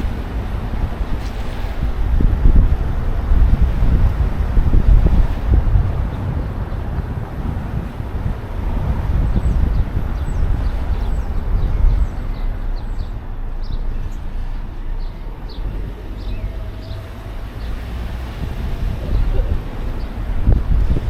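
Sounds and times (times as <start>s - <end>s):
traffic rumble: 0.0s - 21.0s
wind buffeting microphone: 0.0s - 21.0s.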